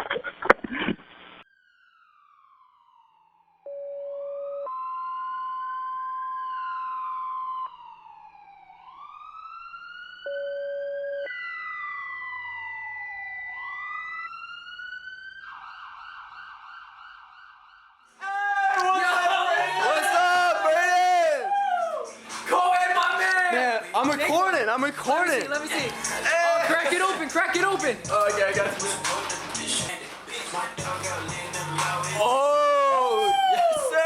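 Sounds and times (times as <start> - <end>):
emergency sirens wailing: 1.5 - 3.7, 4.3 - 34.0.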